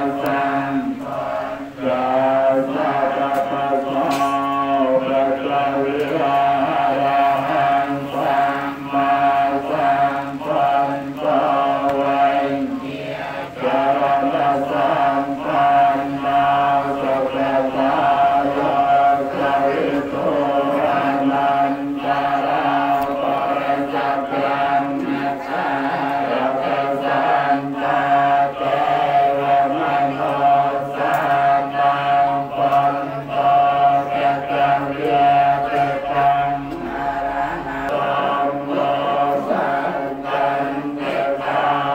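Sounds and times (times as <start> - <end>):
monks chanting in unison: 0.0 - 41.9.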